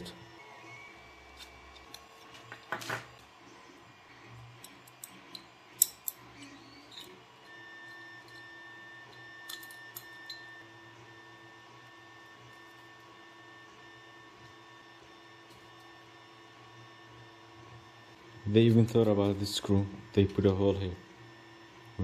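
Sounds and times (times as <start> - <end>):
stepper motors whining: 0.0 - 20.4.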